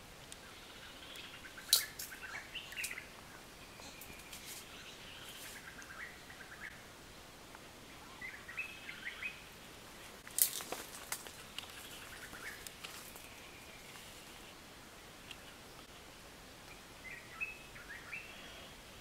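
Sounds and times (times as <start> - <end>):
small birds chirping: 0.3 - 6.9, 7.9 - 9.6, 10.4 - 18.8.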